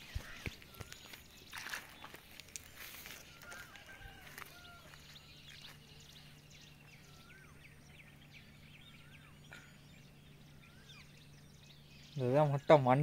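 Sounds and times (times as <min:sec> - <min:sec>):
high bird chirps: 0:00.0 - 0:13.0
low steady hum: 0:00.0 - 0:13.0.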